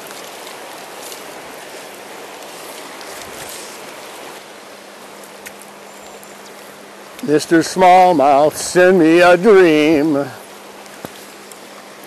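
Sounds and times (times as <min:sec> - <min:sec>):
river rushing over riffles: 0:00.0 - 0:12.0.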